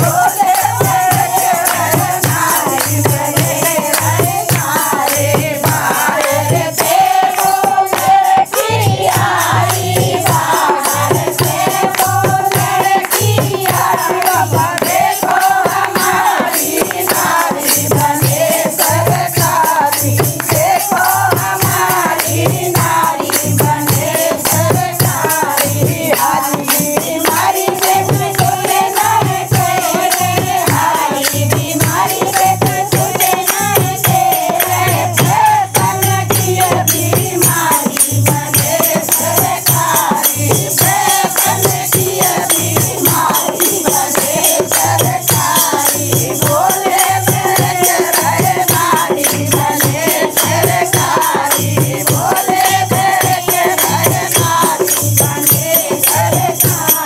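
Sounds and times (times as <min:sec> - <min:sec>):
women singing in chorus: 0:00.0 - 0:57.0.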